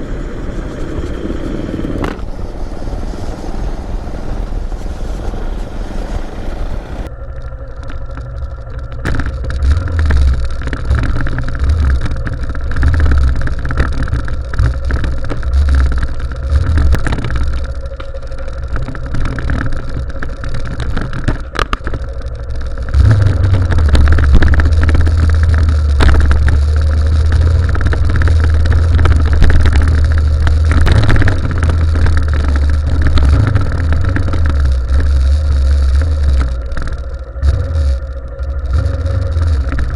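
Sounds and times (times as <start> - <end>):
motorcycle engine revving: 0.0 - 7.1, 8.0 - 39.9
wind rumble on microphone: 0.0 - 39.9.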